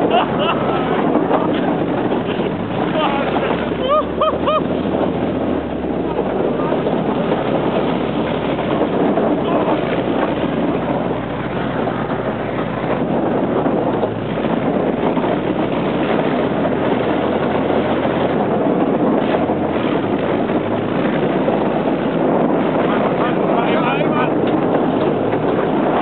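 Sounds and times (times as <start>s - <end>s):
armoured vehicle engine running: 0.0s - 26.0s
wind buffeting microphone: 0.0s - 26.0s.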